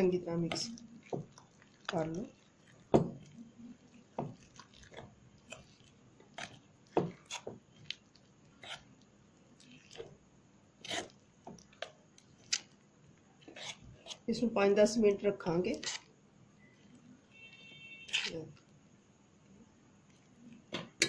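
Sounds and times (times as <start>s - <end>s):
batter stirred in steel pan: 0.0s - 18.7s.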